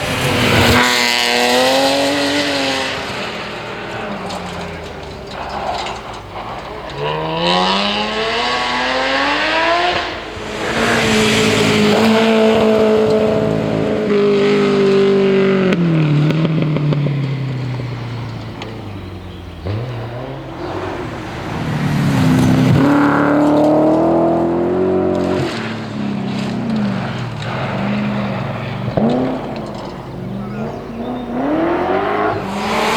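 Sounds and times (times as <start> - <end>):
rally car engine revving: 0.0 - 32.9.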